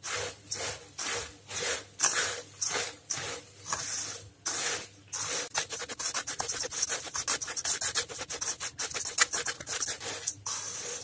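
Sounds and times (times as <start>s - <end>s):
spoon tossing crunchy snack in metal bowl: 0.0s - 11.0s.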